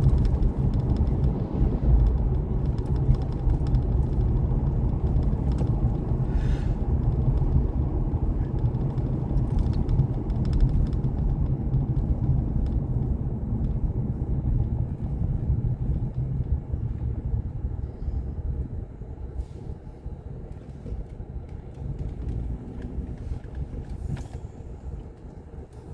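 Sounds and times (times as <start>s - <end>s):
vehicle engine and tyre rumble: 0.0s - 25.9s.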